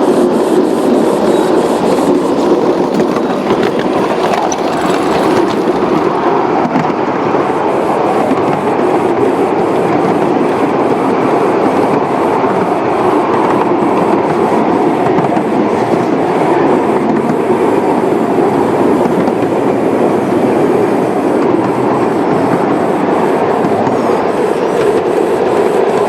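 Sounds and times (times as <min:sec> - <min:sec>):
train wheels on rails: 0:00.0 - 0:09.2, 0:10.9 - 0:26.0.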